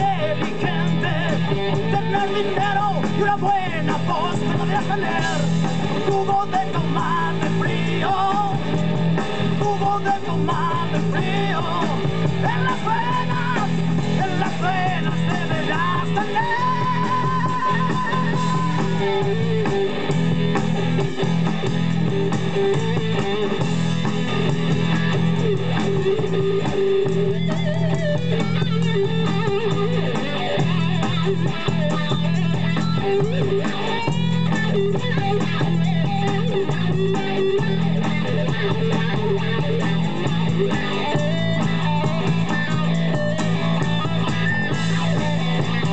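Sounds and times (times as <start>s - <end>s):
bass line: 0.0s - 45.9s
electric guitar lead: 0.0s - 45.9s.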